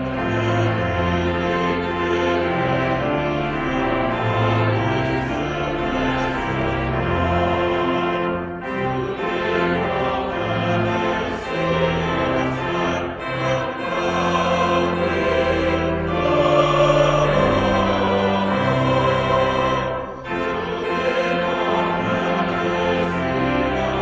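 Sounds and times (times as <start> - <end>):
choir singing a hymn: 0.0 - 24.0
pipe organ bass notes: 0.0 - 24.0.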